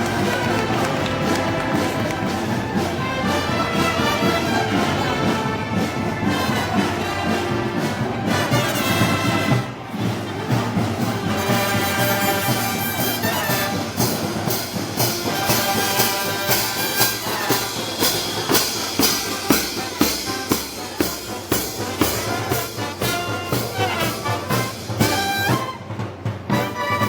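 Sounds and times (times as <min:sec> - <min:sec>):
drums steady beat: 0:00.0 - 0:27.0
trumpets and trombones: 0:00.0 - 0:27.0.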